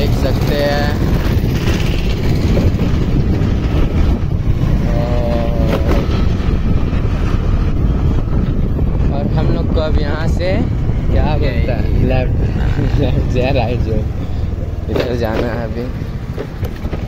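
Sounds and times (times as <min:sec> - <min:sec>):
scooter engine and tyre rumble: 0:00.0 - 0:17.0
wind buffeting microphone: 0:00.0 - 0:17.0.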